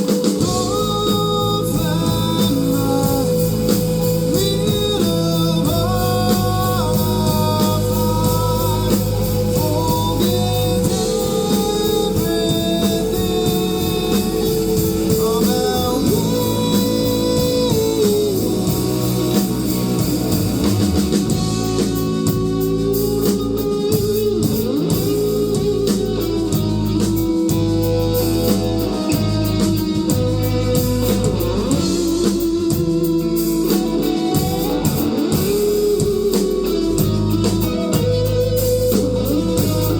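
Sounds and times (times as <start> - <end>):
bass guitar: 0.0 - 39.9
drums: 0.0 - 39.9
electric guitar: 0.0 - 39.9.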